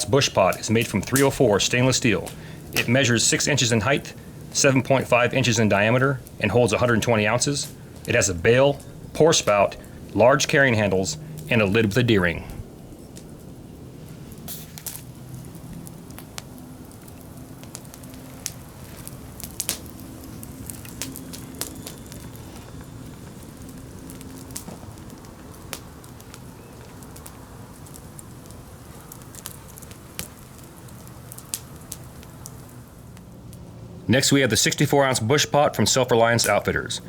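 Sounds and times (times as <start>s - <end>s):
sharp fire pops: 0.0s - 34.8s
campfire crackling: 0.0s - 37.0s
low steady hiss: 0.0s - 37.0s.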